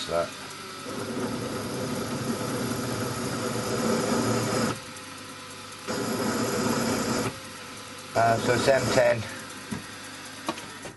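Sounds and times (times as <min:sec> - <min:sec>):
milling machine motor humming: 0:00.0 - 0:10.9.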